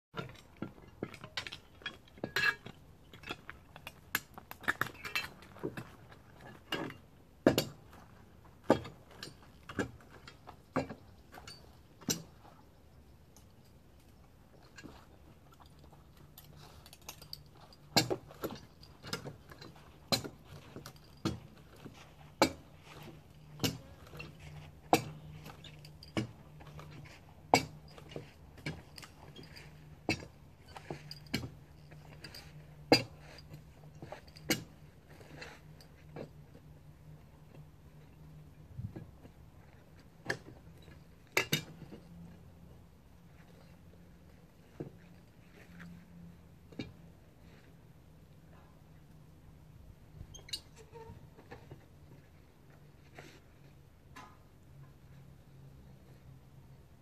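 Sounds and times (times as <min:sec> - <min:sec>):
metallic clinks of climbing gear: 0:00.2 - 0:57.0.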